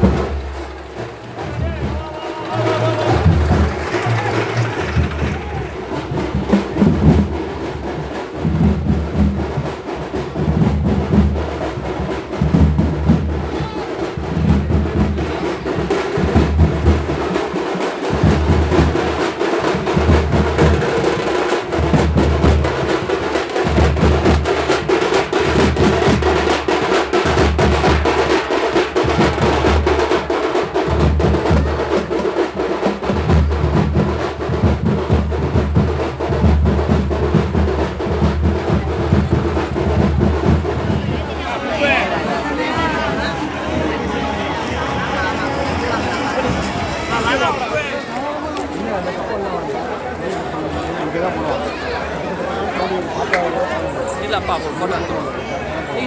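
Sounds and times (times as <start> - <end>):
deep drum beats: 0.0 - 51.2.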